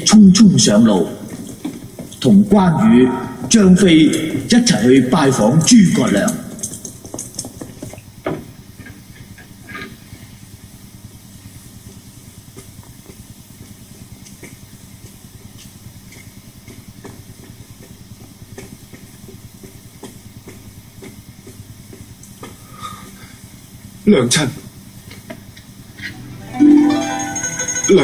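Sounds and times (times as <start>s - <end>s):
faint hum: 0.0s - 28.0s
steady low hiss: 0.0s - 28.0s.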